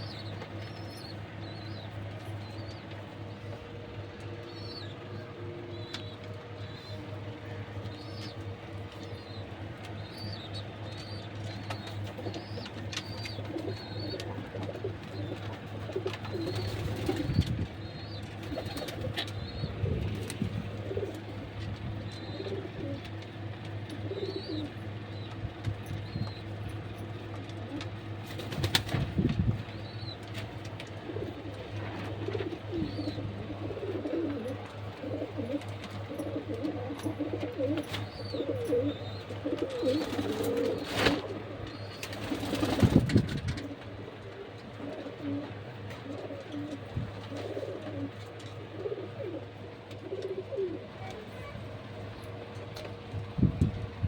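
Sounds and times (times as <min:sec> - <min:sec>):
pigeons cooing: 0:00.0 - 0:54.0
steady low hum: 0:00.0 - 0:54.0.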